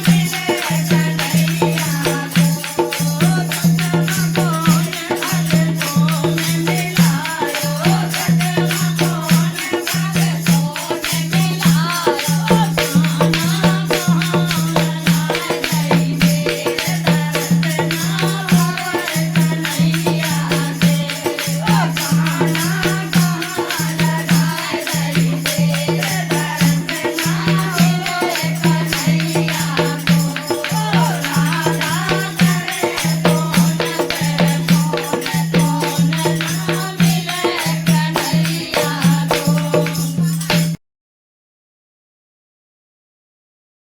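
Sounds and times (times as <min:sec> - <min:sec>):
jingling hand percussion: 0:00.0 - 0:40.8.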